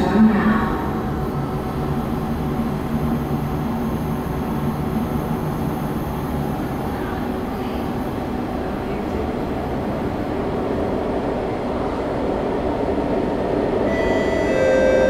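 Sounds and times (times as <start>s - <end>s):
high train whine: 0.0s - 15.0s
train rumbling in tunnel: 0.0s - 15.0s.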